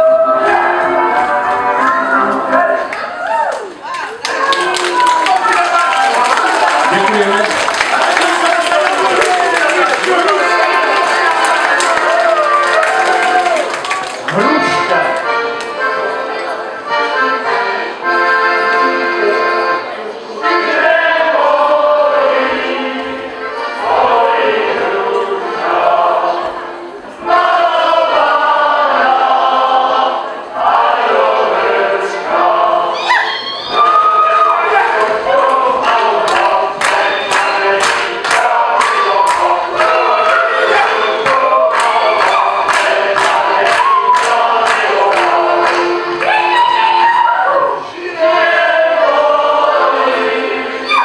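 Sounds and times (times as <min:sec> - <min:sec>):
accordion playing folk tune: 0:00.0 - 0:03.0, 0:06.1 - 0:13.2, 0:14.2 - 0:32.9, 0:33.7 - 0:46.6, 0:47.6 - 0:50.9
group of voices singing: 0:00.0 - 0:03.0, 0:04.3 - 0:13.6, 0:20.3 - 0:51.0.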